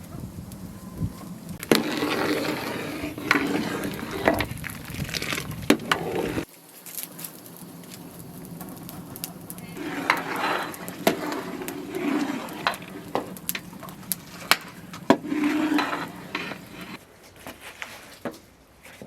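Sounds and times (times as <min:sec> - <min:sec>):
stirring and scraping: 0:01.2 - 0:17.0.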